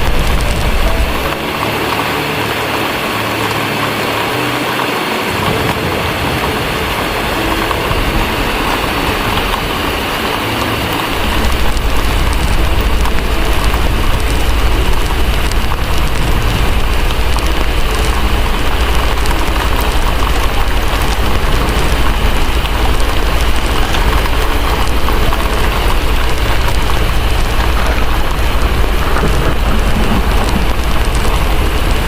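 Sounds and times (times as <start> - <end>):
deep rumble: 0.0 - 32.0
fireplace crackling: 0.0 - 32.0
heavy rain: 0.0 - 32.0.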